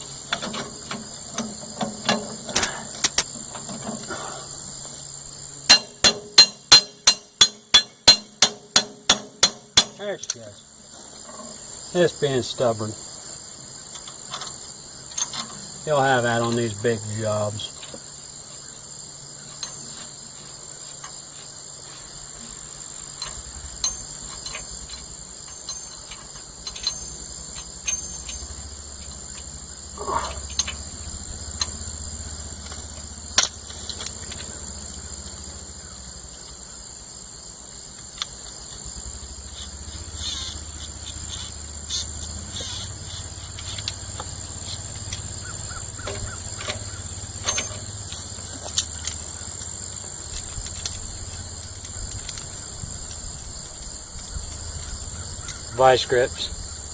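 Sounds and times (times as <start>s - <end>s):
crickets chirring: 0.0s - 56.9s.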